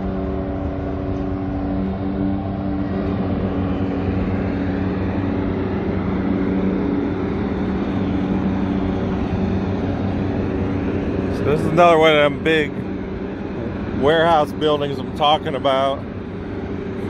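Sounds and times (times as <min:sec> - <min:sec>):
engine hum: 0:00.0 - 0:17.0.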